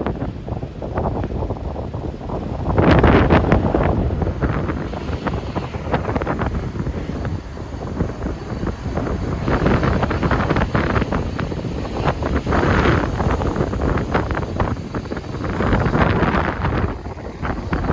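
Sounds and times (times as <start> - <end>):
gusty wind buffeting microphone: 0.0 - 17.9.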